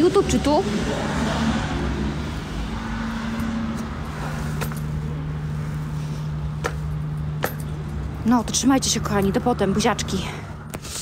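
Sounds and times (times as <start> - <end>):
low engine-like hum: 0.0 - 11.0
outdoor noise: 0.0 - 11.0.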